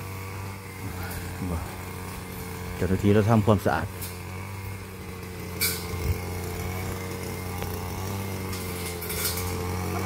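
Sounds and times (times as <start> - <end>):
brush cutter engine running: 0.0 - 10.0.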